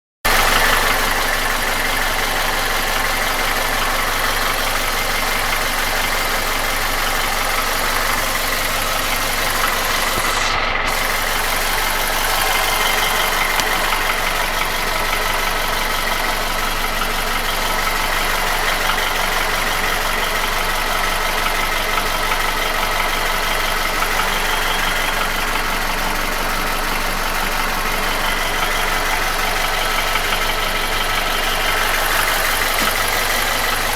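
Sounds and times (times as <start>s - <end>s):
car engine idling with knock: 0.3s - 33.9s.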